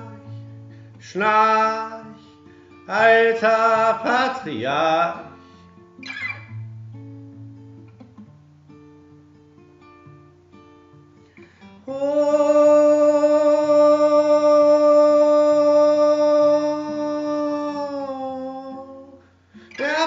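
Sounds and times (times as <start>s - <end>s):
picked acoustic guitar: 0.0s - 20.0s.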